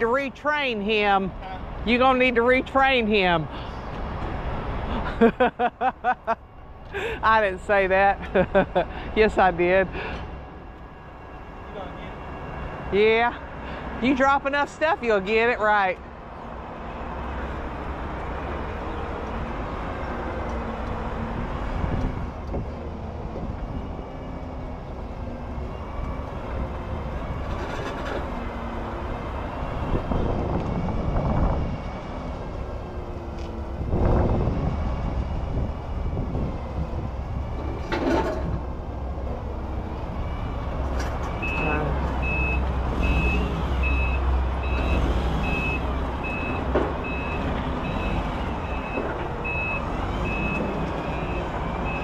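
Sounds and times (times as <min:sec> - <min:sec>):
forklift engine running: 0:00.0 - 0:52.0.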